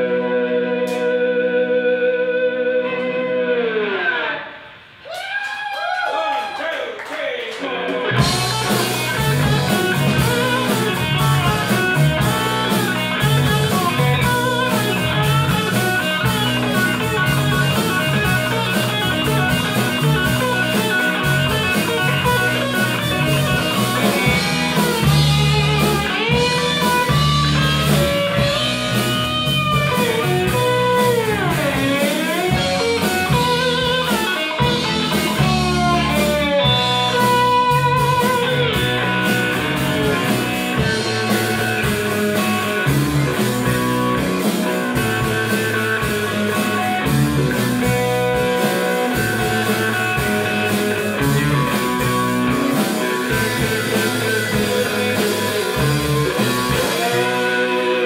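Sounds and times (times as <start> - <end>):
drum kit: 0.0 - 1.2, 7.6 - 58.0
electric bass: 0.0 - 5.0, 7.9 - 58.0
keyboards: 0.0 - 5.0, 7.2 - 58.0
electric slide guitar: 0.0 - 5.1, 7.7 - 58.0.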